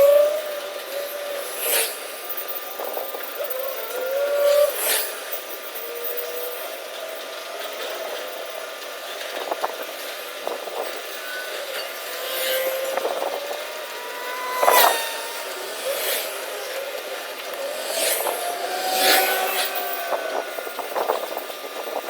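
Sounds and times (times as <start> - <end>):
machinery whining: 0.0 - 22.0.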